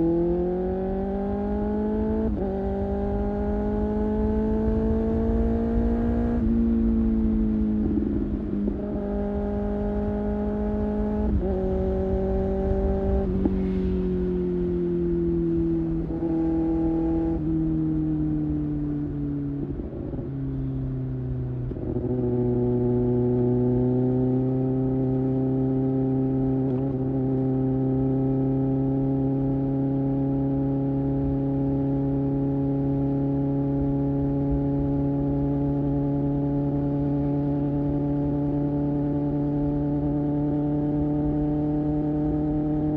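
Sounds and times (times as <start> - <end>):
low wind rush: 0.0 - 42.9
motorcycle engine cruising: 0.0 - 42.9.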